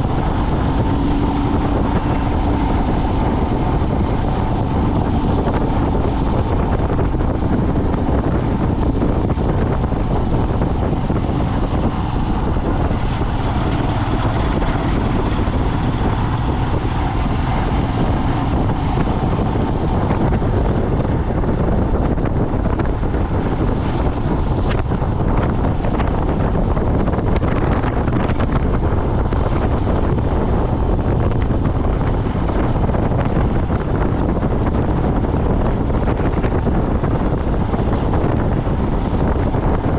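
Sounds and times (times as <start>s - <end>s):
vehicle driving on road: 0.0s - 39.9s
wind on microphone: 0.0s - 39.9s.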